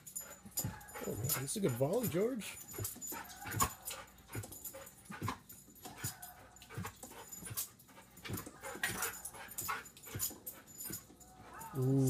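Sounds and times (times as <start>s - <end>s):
dog whimpering and panting: 0.0s - 12.0s.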